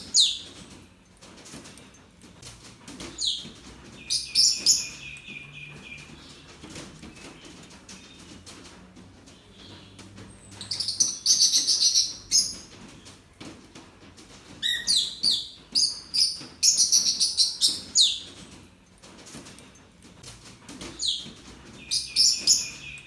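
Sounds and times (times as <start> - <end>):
birds chirping: 0.0 - 2.1, 2.8 - 13.4, 14.4 - 23.0.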